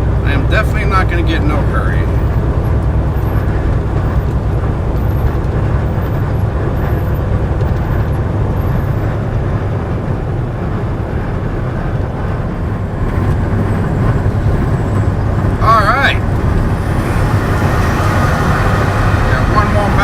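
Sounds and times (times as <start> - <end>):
truck diesel engine drone: 0.0 - 20.0
tyres on road: 0.0 - 20.0.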